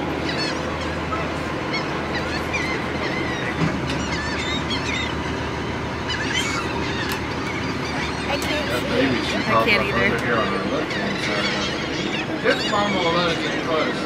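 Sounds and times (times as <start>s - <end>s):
boat engine drone: 0.0s - 14.0s
gulls squawking: 0.0s - 14.0s.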